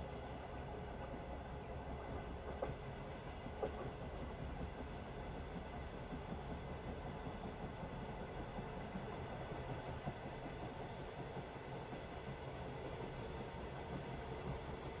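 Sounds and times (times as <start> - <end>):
moving train rumble and hiss: 0.0 - 15.0.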